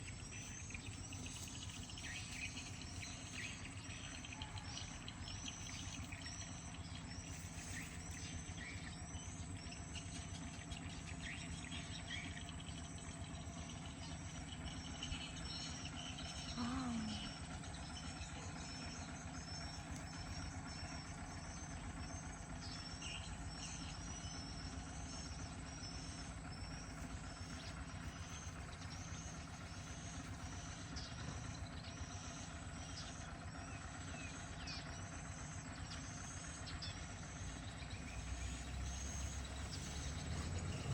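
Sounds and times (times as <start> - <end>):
low bird call: 0.0 - 40.9
small birds chirping: 0.0 - 40.9.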